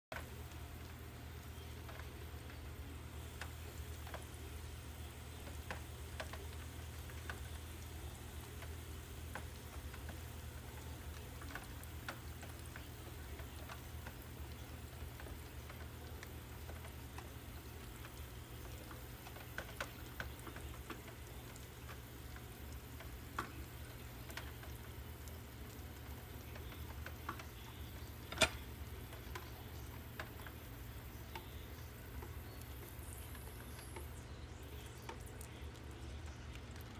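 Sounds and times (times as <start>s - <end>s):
steady low hum: 0.1s - 36.9s
faint ticks: 0.2s - 36.9s.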